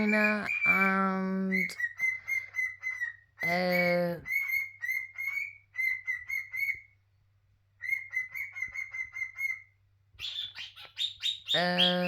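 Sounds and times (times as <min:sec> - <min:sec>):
cockatiel chirping: 0:00.0 - 0:07.0, 0:07.8 - 0:12.0.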